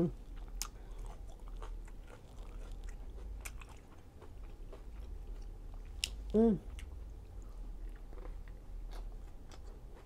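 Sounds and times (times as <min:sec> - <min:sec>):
chewing food: 0:00.1 - 0:10.0.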